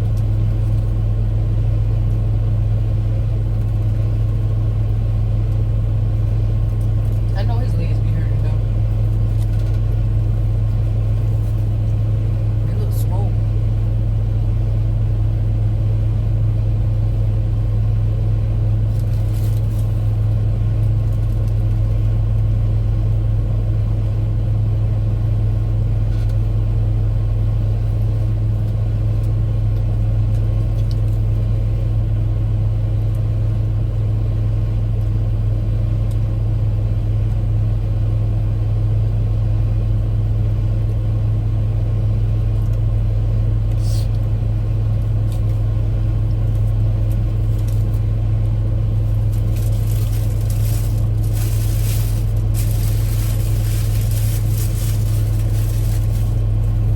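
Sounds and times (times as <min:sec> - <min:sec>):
car engine running: 0:00.0 - 0:56.9.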